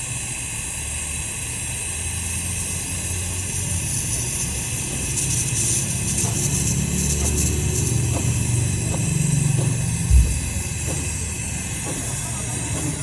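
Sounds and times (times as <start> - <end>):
machine humming and hissing: 0.0 - 13.0.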